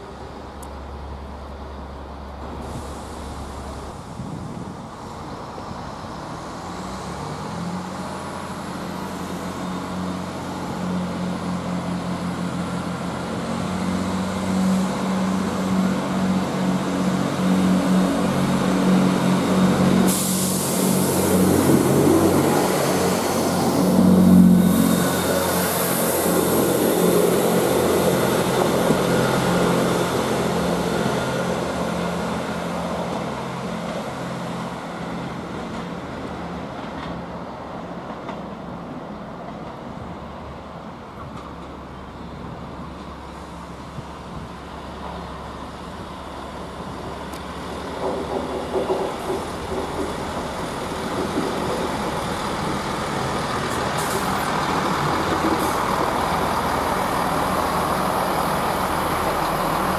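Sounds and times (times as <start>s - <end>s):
diesel train engine drone: 0.0s - 59.9s.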